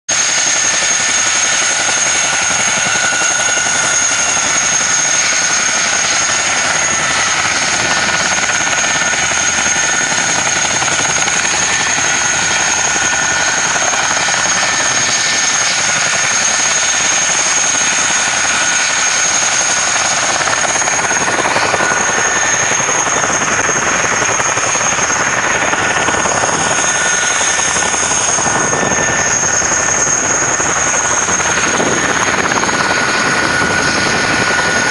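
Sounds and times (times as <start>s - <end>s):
helicopter rotor and engine noise: 0.1s - 34.9s
high-pitched turbine whine: 0.1s - 34.9s.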